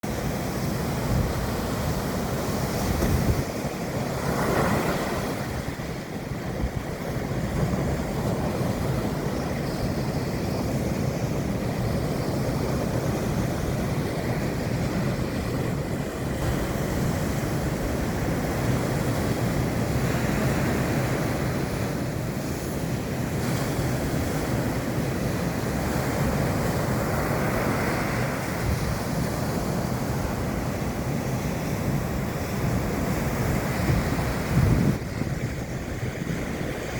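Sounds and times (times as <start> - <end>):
surf breaking on beach: 0.0 - 36.9
wind rumble on microphone: 0.0 - 36.9.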